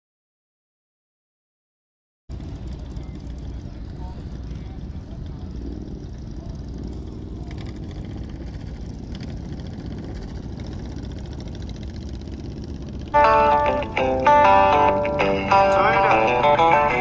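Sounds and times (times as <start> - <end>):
motorcycle engine idling: 2.3 - 17.0
other motorcycle engines: 2.3 - 17.0.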